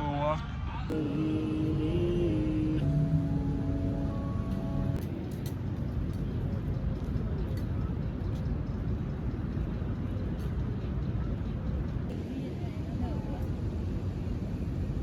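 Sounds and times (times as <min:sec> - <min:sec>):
steady low rumble: 0:00.4 - 0:15.0.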